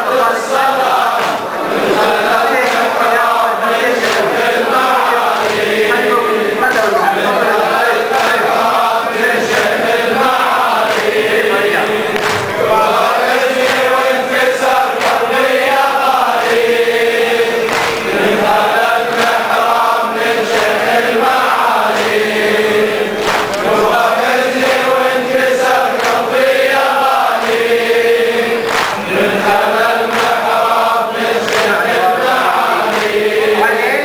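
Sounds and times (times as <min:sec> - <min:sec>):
men chanting a lament: 0:00.0 - 0:34.0.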